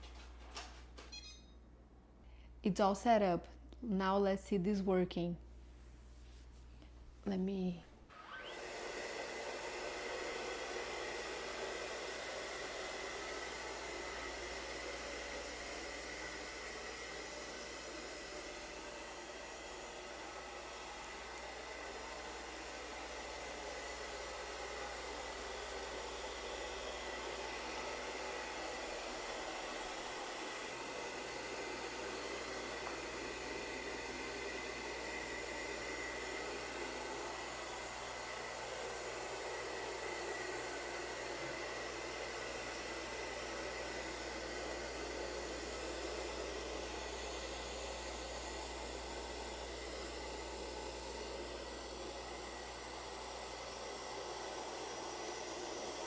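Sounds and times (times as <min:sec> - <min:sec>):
robot vacuum whirring: 0:08.1 - 0:56.0.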